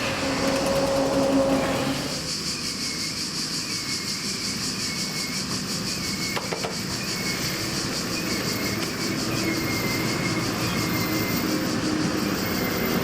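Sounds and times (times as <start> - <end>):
rail vehicle moving slowly: 0.0 - 13.0
wheel squeal: 0.0 - 13.0.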